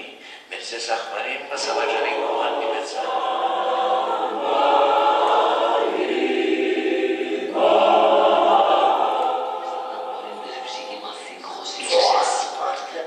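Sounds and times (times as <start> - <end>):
group of voices singing: 1.5 - 12.8.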